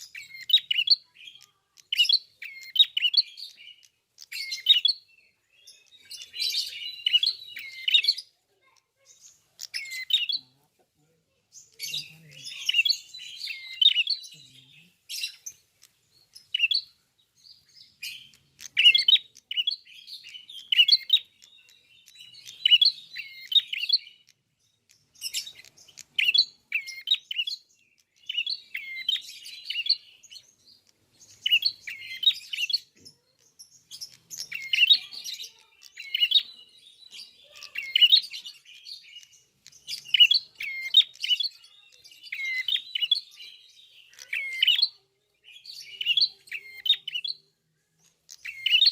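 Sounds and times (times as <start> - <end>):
bird chirping: 0.0 - 48.9.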